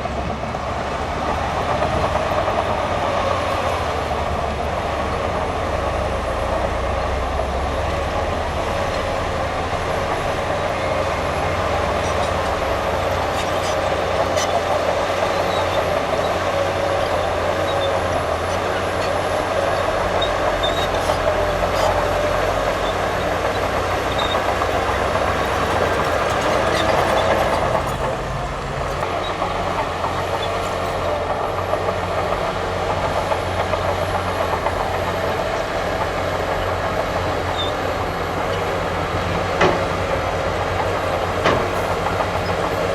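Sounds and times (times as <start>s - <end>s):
bulldozer engine running: 0.0s - 42.9s.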